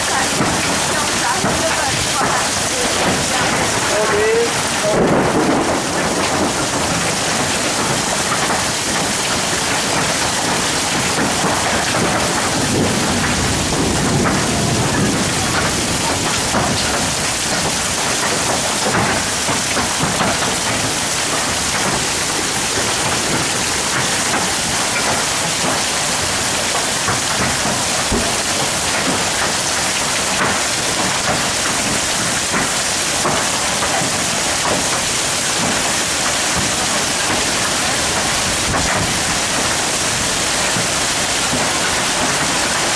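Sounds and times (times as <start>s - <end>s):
hailstones striking: 0.0s - 42.9s
heavy rain hissing: 0.0s - 42.9s.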